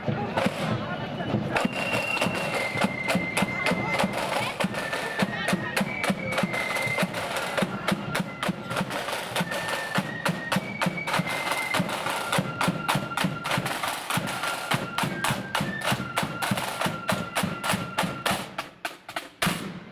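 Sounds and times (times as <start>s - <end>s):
snare drum strokes: 0.0s - 19.9s
high flute melody: 0.2s - 18.8s.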